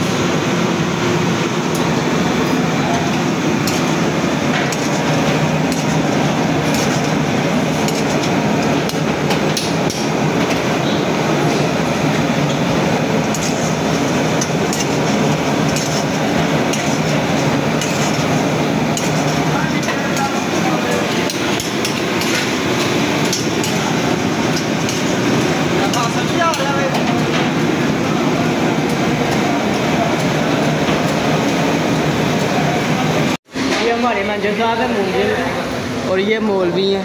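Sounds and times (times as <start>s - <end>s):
gas burners roaring: 0.0s - 37.0s.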